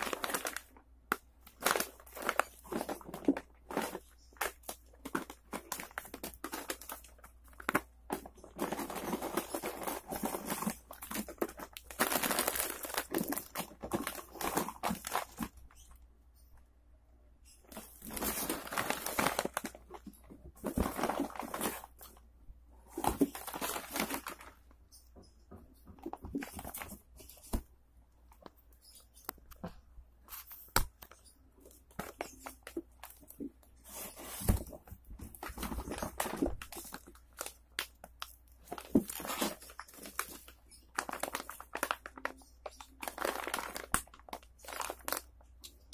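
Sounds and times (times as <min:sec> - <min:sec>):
plastic bags crinkling: 0:00.0 - 0:15.8, 0:17.6 - 0:22.2, 0:22.9 - 0:24.7, 0:30.4 - 0:45.9.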